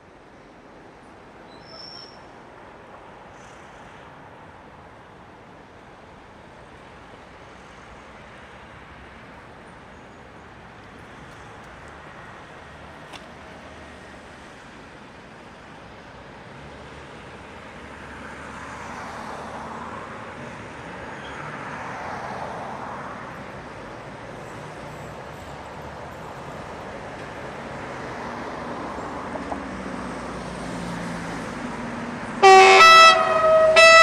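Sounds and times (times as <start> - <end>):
diesel locomotive hauling train: 0.0 - 18.1, 19.6 - 34.0.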